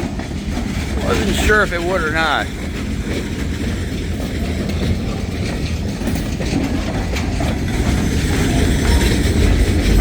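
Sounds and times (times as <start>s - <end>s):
freight train wheels clacking: 0.0s - 10.0s.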